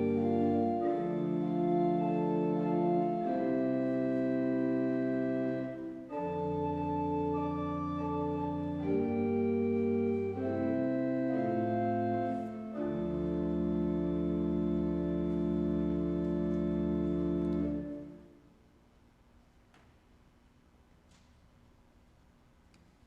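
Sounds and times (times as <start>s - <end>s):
church organ chords: 0.0s - 18.5s.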